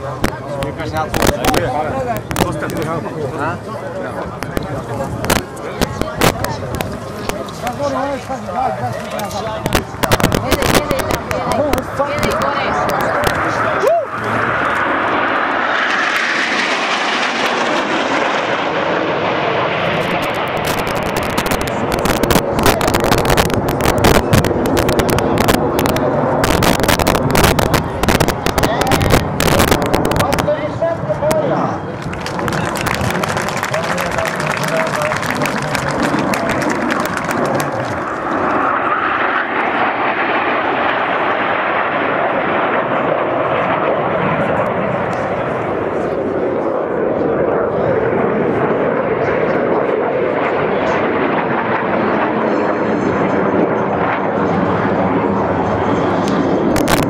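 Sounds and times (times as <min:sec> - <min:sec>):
jet fighters flying overhead: 0:00.0 - 0:57.0.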